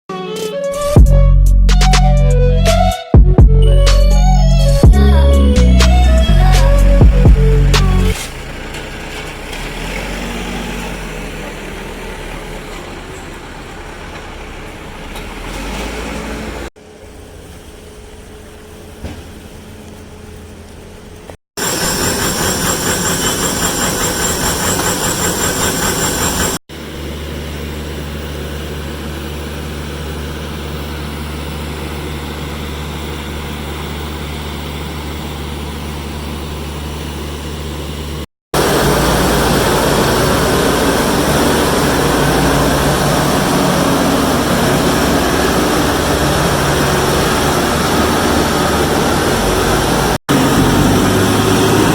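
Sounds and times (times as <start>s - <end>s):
diesel machinery engine drone: 3.5s - 51.9s.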